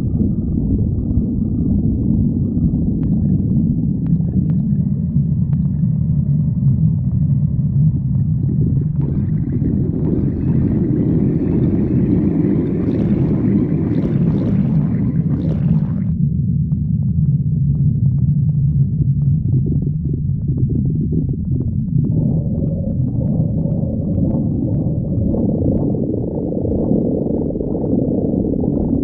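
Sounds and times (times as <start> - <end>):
stomach growling: 0.0 - 16.2, 17.5 - 29.0.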